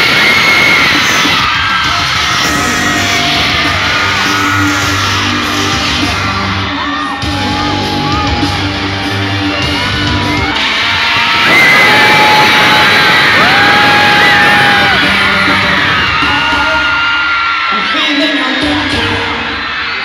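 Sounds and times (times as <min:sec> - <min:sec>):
concert intro music over pa: 0:00.0 - 0:20.0
crowd screaming and whooping: 0:00.0 - 0:20.0.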